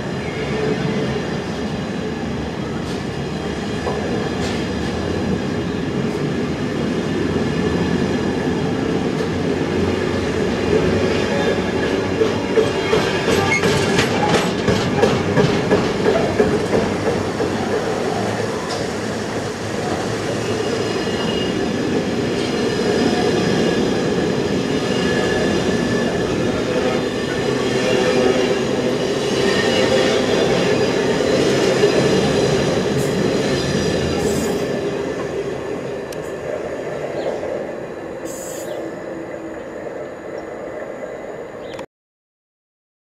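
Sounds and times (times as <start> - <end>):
freight train rolling on rails: 0.0 - 41.8.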